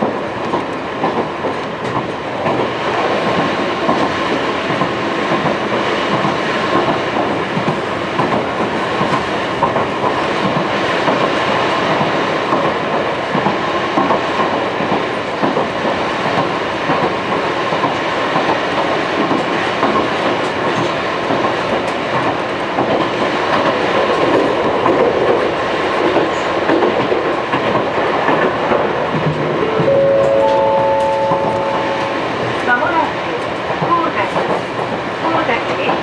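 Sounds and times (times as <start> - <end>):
clickety-clack over rail joints: 0.0 - 30.4, 32.4 - 36.0
train wheels rumbling on rails: 0.0 - 36.0.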